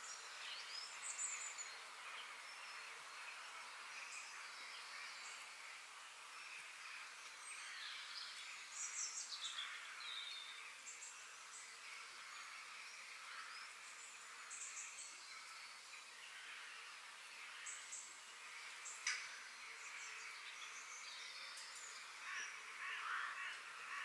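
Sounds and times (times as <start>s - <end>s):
background hiss: 0.0s - 24.0s
small birds chirping: 0.0s - 24.0s.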